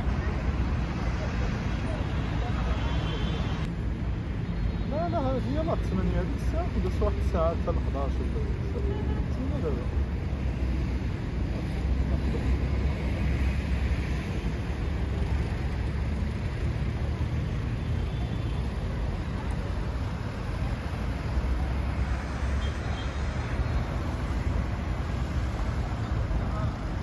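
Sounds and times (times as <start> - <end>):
passing cars traffic noise: 0.0 - 27.0.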